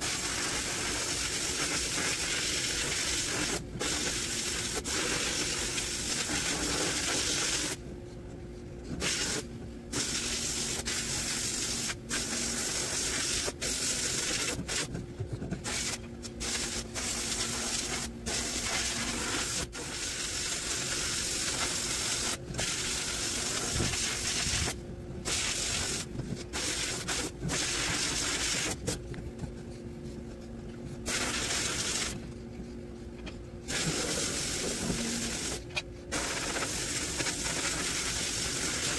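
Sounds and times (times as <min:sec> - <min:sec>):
sandblasting nozzle hissing: 0:00.0 - 0:07.8, 0:09.0 - 0:14.9, 0:15.6 - 0:28.8, 0:31.1 - 0:32.2, 0:33.7 - 0:38.9.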